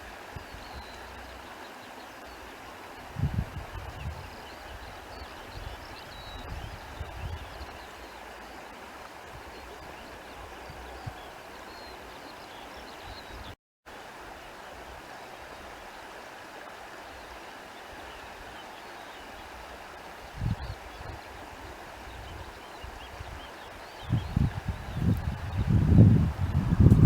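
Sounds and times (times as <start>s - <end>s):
stream water rushing: 0.0s - 13.1s, 13.9s - 27.0s.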